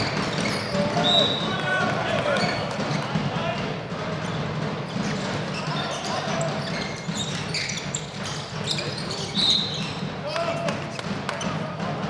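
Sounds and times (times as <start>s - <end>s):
shoes squeaking on floor: 0.0s - 11.7s
players shouting: 0.0s - 12.0s.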